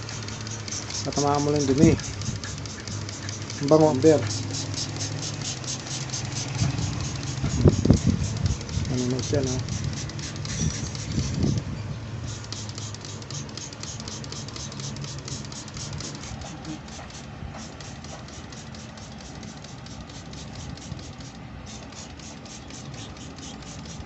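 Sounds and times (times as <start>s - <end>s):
hissing spray pulses: 0.0s - 24.0s.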